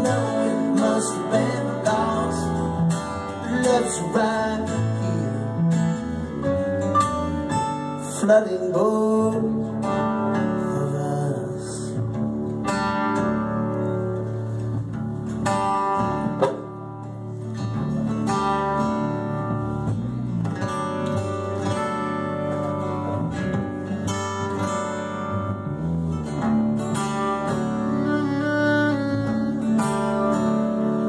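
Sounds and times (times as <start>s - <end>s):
strummed acoustic guitar: 0.0s - 31.0s
upright bass: 0.0s - 31.0s.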